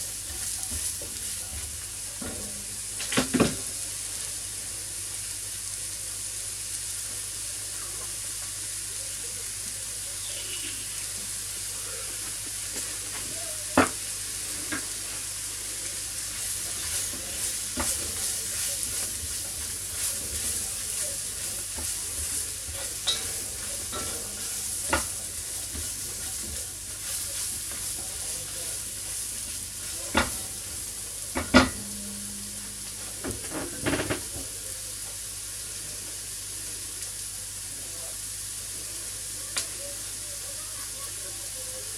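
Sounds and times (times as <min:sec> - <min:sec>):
vegetables sizzling in a pot: 0:00.0 - 0:41.9.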